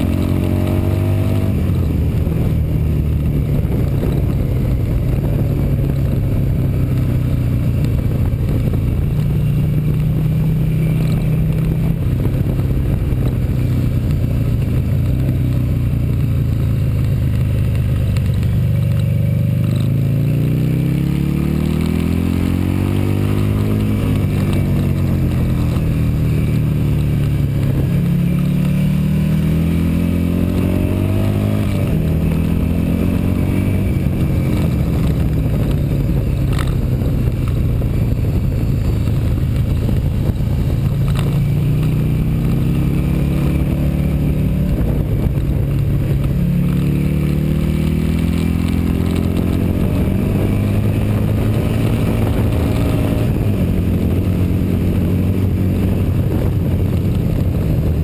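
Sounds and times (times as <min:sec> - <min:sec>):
motorcycle engine accelerating: 0:00.0 - 0:58.0
wind rush: 0:00.0 - 0:58.0.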